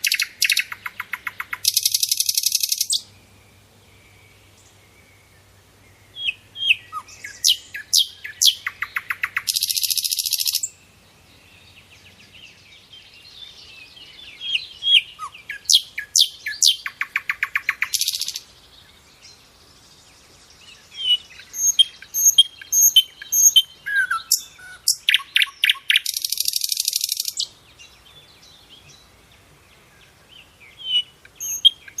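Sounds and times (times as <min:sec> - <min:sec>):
songbird singing: 0:00.0 - 0:32.0.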